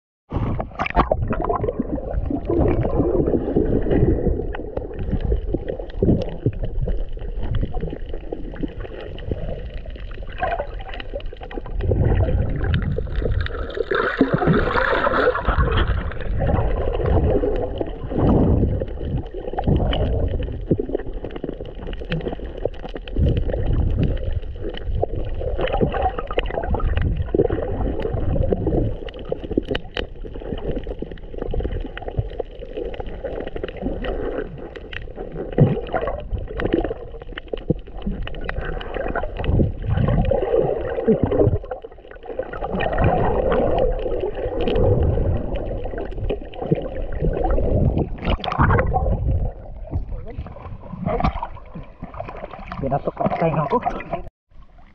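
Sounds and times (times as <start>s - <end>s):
muffled water sloshing underwater: 0.3s - 54.9s.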